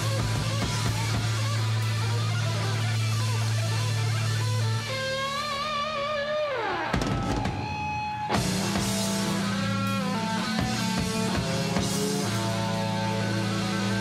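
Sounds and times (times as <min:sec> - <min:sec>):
electric guitar: 0:00.0 - 0:14.0.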